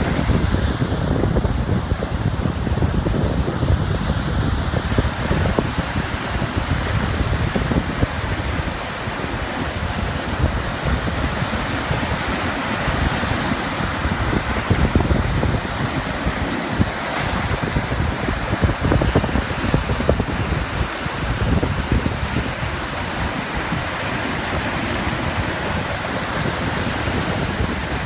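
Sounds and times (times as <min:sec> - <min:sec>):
ocean waves lapping on shore: 0:00.0 - 0:28.0
wind buffeting microphone: 0:00.0 - 0:28.0.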